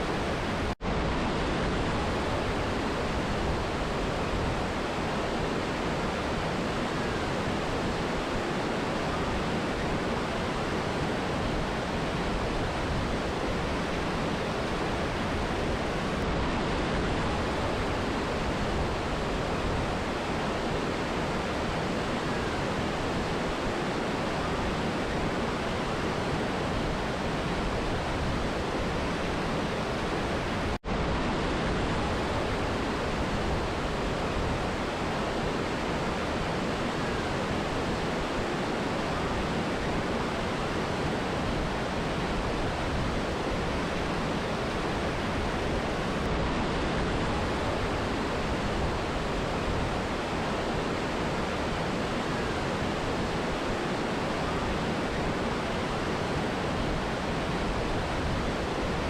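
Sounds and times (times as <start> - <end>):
river and waterfall rushing: 0.0 - 59.0.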